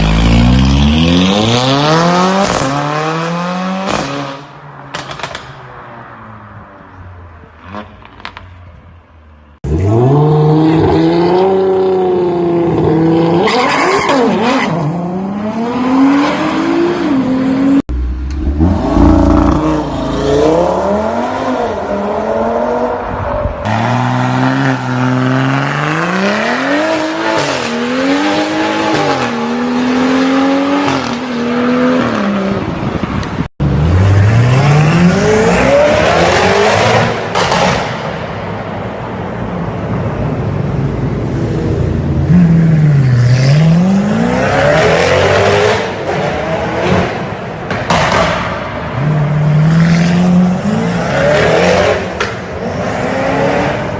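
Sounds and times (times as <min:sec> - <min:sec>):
car engines revving: 0:00.0 - 0:08.8, 0:09.4 - 0:53.9.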